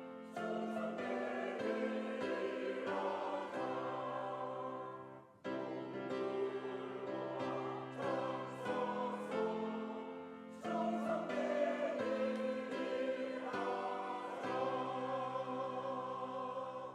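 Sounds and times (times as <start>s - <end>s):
church choir singing: 0.0s - 16.9s.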